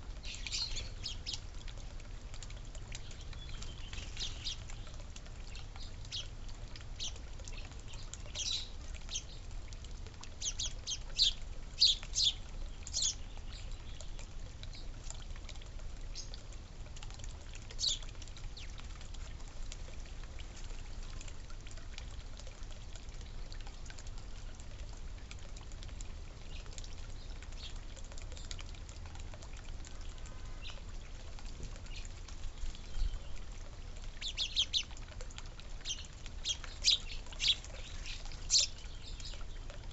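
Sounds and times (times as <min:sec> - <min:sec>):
songbirds chirping: 0:00.0 - 0:16.6, 0:17.2 - 0:22.2, 0:26.3 - 0:39.9.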